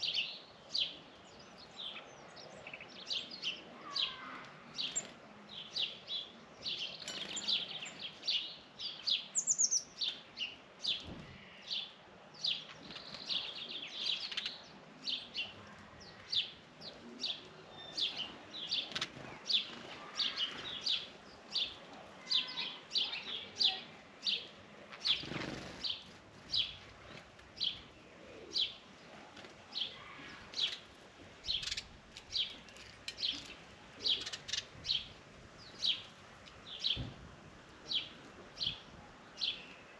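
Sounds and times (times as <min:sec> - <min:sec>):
birds chirping: 0:00.0 - 0:29.0, 0:29.7 - 0:37.0.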